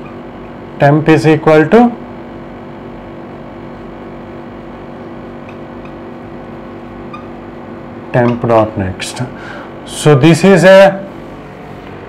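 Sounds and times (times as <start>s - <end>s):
low tonal background hum: 0.0s - 12.0s.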